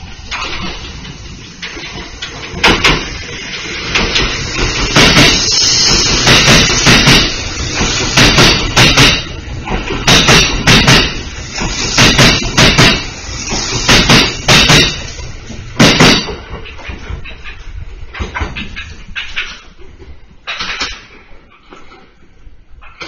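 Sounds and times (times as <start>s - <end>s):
train rolling rumble: 0.0s - 23.0s
train wheels clattering over rail joints: 0.0s - 23.0s.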